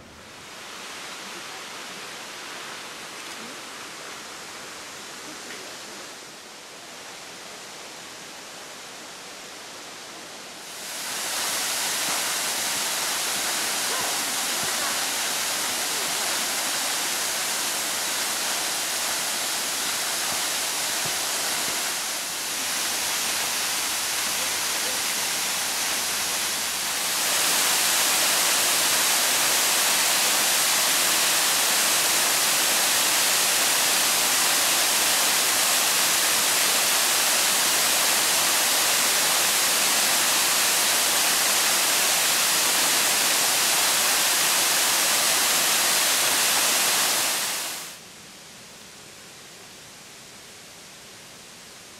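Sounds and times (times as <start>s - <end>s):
mountain river rushing: 0.0s - 48.1s.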